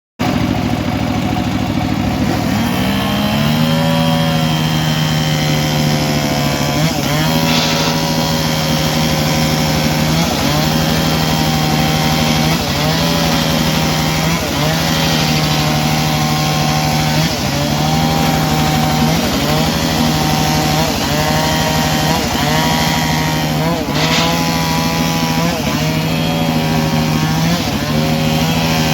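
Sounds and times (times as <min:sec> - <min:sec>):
circular saw cutting wood: 0:02.1 - 0:28.9.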